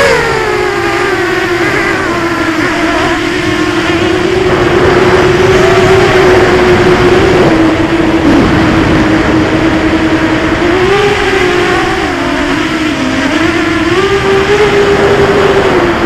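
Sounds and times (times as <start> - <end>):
drone motors buzzing: 0.0 - 16.0
rush of air noise: 2.0 - 16.0.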